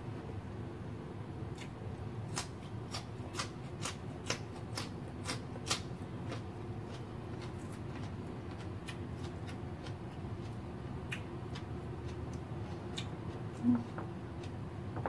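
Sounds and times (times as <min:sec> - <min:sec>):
steady low hum: 0:00.0 - 0:15.0
person chewing crunchy chili: 0:01.5 - 0:14.7.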